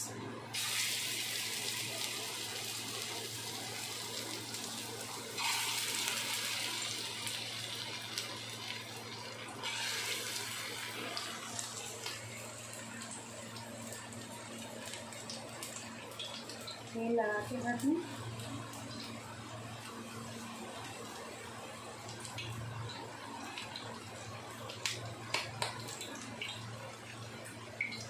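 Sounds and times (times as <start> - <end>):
kebabs sizzling in hot oil: 0.5 - 28.0.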